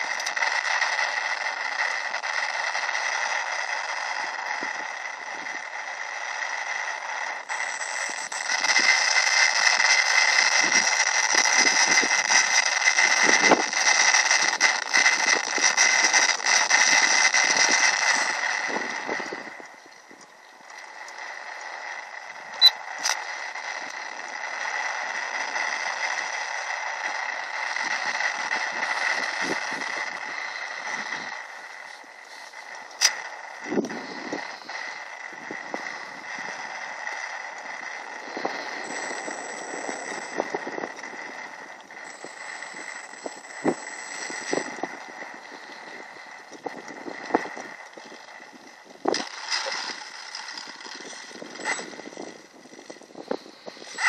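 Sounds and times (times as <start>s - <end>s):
model plane motor drone: 0.0s - 54.0s
sharp clicks: 0.0s - 54.0s.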